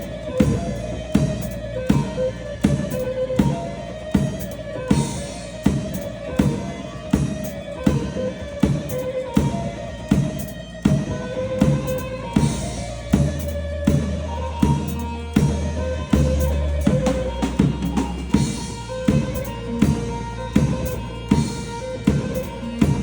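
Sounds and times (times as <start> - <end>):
heavy drum beat: 0.0 - 23.0.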